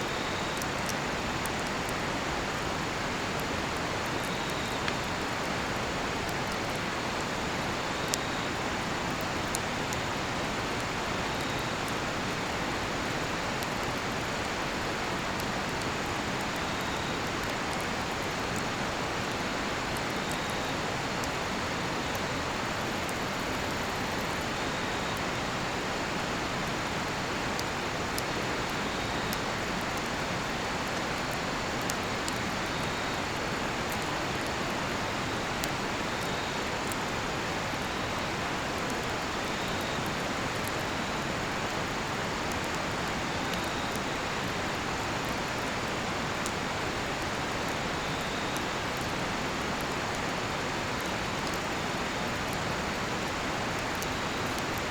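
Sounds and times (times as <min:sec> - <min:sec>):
faint cricket chirp: 0:00.0 - 0:02.4, 0:03.1 - 0:05.6, 0:06.4 - 0:26.9, 0:27.5 - 0:54.9
campfire crackling and popping: 0:00.3 - 0:41.2, 0:50.9 - 0:54.8.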